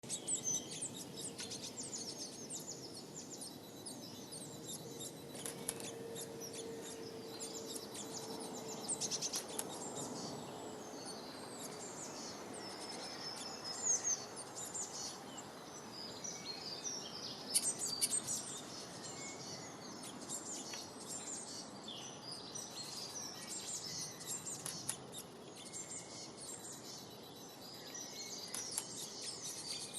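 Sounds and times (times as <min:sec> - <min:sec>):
outdoor background hiss: 0:00.0 - 0:29.9
songbirds chirping: 0:00.0 - 0:29.9.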